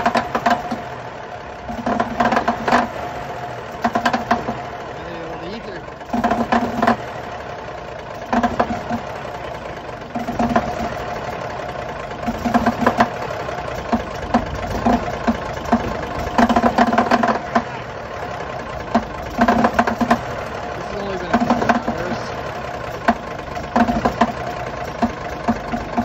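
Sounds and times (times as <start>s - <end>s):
diesel engine running roughly: 0.0s - 26.0s
loud sharp engine knocking: 0.0s - 26.0s.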